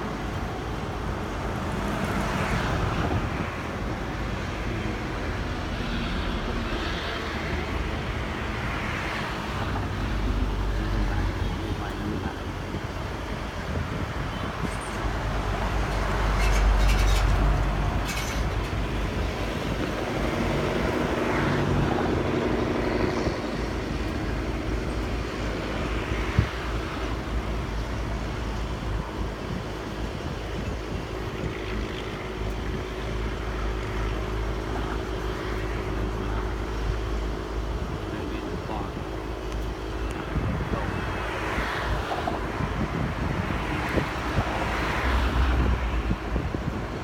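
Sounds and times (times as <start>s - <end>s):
road traffic rumble: 0.0s - 47.0s.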